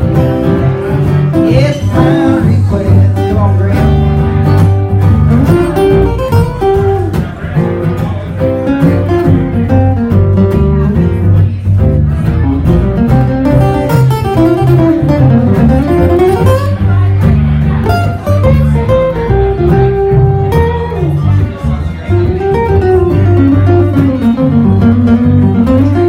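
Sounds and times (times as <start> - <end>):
picked acoustic guitar melody: 0.0 - 26.0
upright bass line: 0.0 - 26.0.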